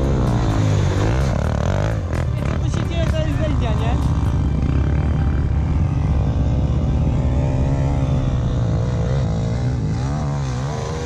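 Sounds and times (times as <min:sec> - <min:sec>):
quad bike engine under throttle: 0:00.0 - 0:11.0.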